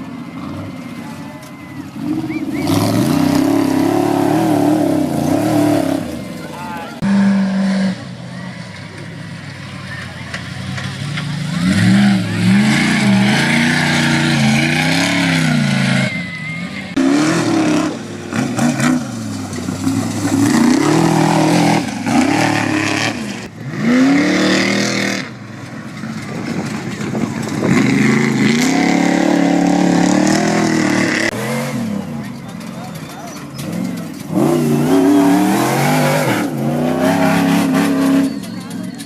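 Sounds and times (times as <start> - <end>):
truck engines revving: 0.0 - 39.0
trucks passing by: 0.0 - 39.0.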